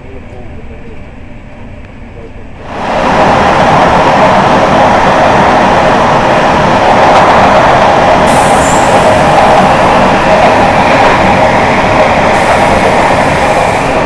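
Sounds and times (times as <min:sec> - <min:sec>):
train wheel and wind noise: 0:00.0 - 0:14.0.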